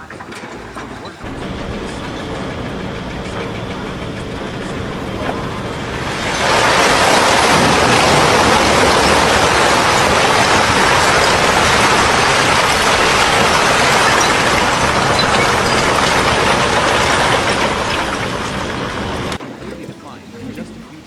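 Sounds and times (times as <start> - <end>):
heavy construction machinery drone: 1.2 - 19.4.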